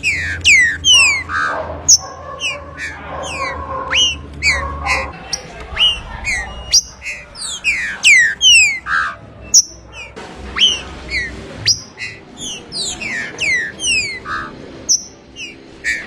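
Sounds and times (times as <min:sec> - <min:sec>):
bird singing whistled notes: 0:00.0 - 0:16.0.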